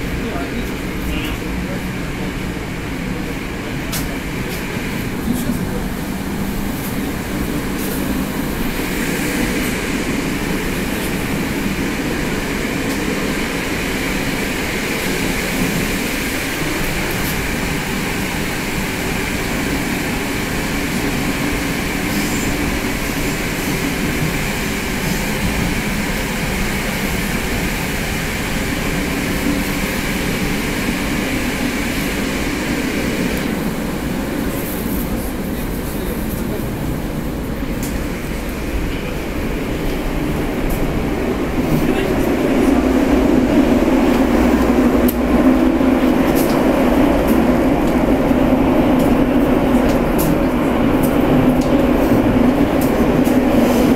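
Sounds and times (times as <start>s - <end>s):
train wheels on rail: 0.0s - 53.9s.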